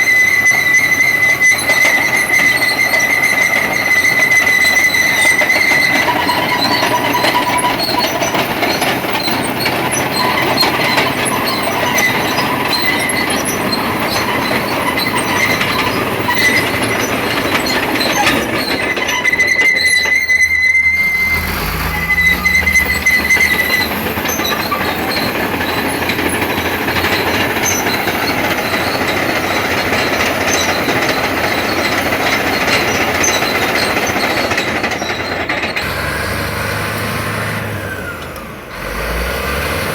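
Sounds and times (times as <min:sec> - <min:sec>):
bulldozer engine: 0:00.0 - 0:39.9
bulldozer tracks clanking: 0:00.0 - 0:39.9
high squeal of tracks: 0:00.0 - 0:39.9.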